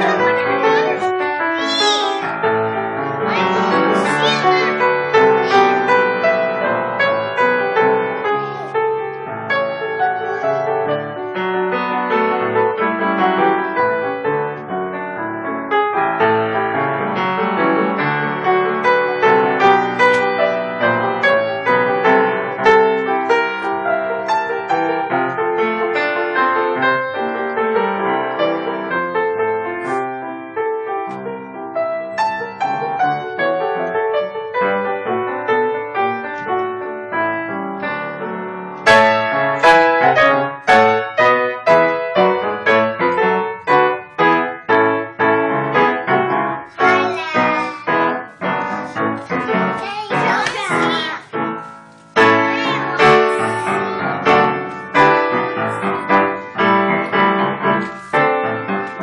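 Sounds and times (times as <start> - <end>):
upright piano playing: 0.0 - 59.0.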